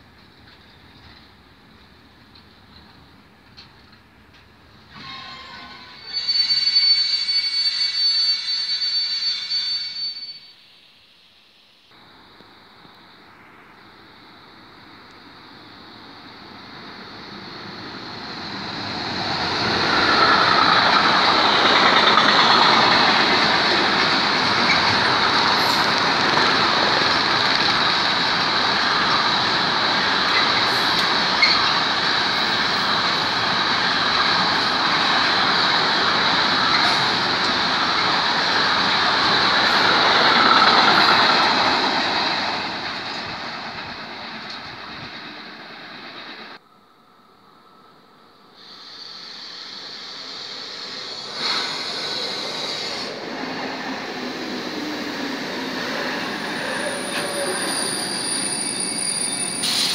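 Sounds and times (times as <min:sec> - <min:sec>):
freight train passing at speed: 0:00.0 - 0:10.4, 0:11.9 - 0:59.9.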